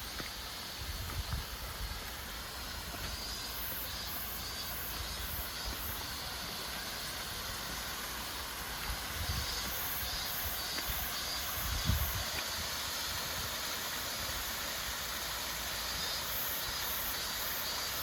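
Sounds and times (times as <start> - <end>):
waterfall hiss: 0.0 - 18.0.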